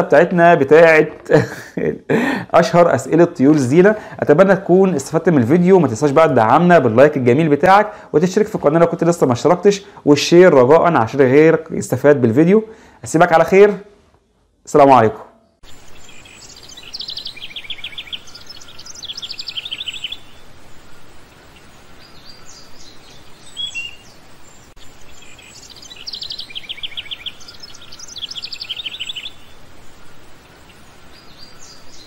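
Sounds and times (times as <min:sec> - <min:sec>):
steady hiss: 0:00.0 - 0:14.0, 0:15.6 - 0:32.0
birds chirping trills: 0:00.0 - 0:32.0.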